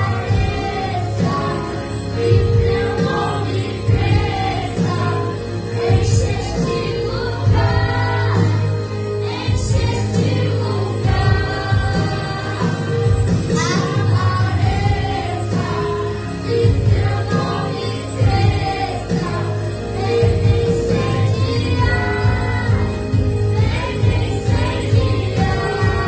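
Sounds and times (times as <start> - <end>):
amplified instrumental backing music: 0.0 - 26.0.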